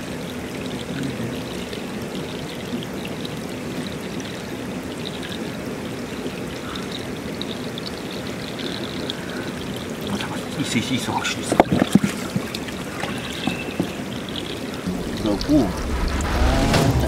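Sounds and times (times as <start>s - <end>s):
stream water flowing: 0.0s - 17.0s.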